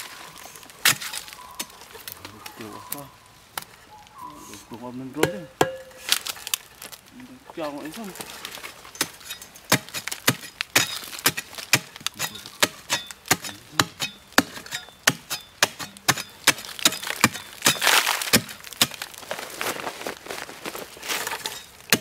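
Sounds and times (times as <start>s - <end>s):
earth scraping and crumbling: 0.0s - 22.0s.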